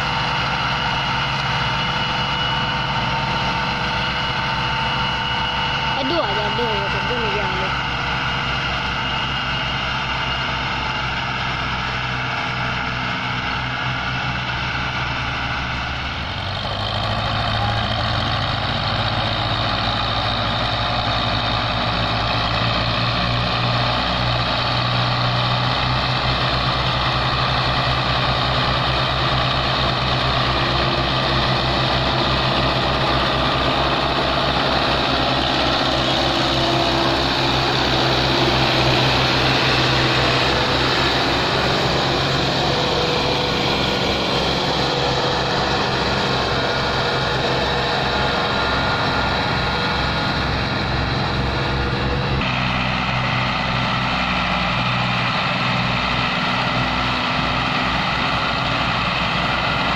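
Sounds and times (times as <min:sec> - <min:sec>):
tractor engines under load: 0:00.0 - 0:59.9.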